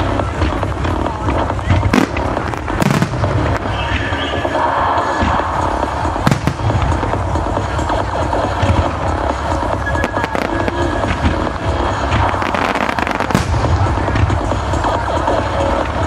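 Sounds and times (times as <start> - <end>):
fireworks bangs and crackling: 0.0 - 16.0
music playing: 0.0 - 16.0
low rumble: 0.5 - 16.0.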